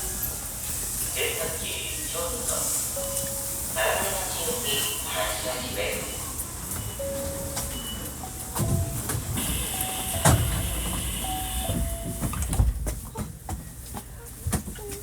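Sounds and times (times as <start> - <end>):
train car rumbling: 0.0 - 15.0.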